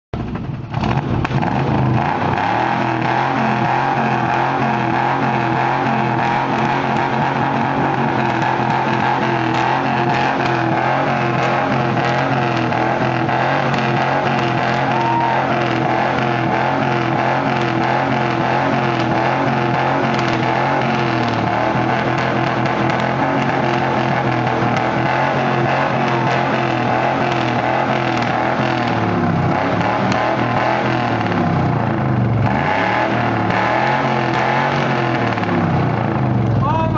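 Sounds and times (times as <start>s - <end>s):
truck engine idling loudly: 0.2s - 36.9s.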